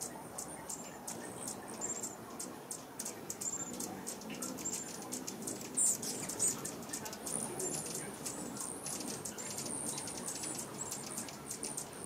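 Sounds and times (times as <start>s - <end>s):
hummingbirds chipping and squeaking: 0.0s - 12.0s.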